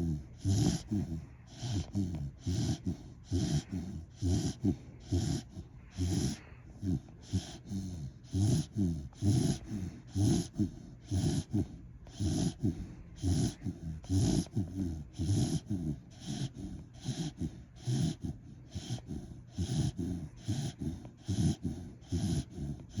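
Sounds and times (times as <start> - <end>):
dog snoring: 0.0 - 23.0.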